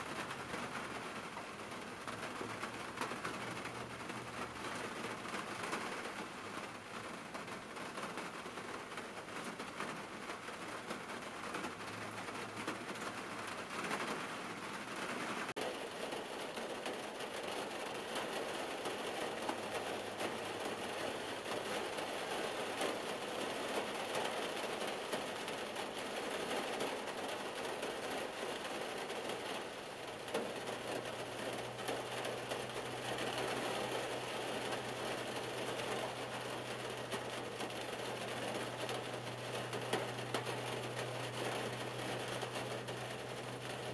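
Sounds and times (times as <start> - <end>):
rain on car roof: 0.0 - 43.9.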